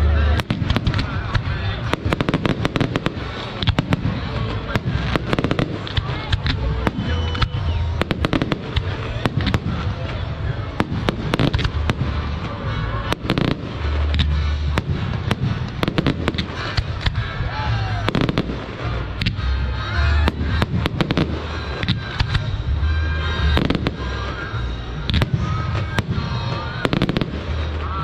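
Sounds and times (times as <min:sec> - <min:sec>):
firework bangs and crackling: 0:00.0 - 0:28.0.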